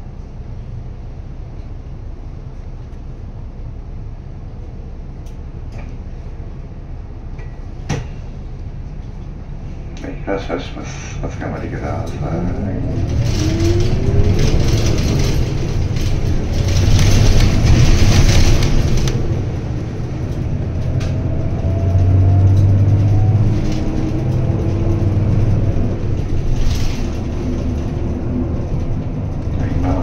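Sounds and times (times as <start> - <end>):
bus engine hum with rising whine: 0.0 - 30.0
road and cabin rattle: 4.4 - 30.0.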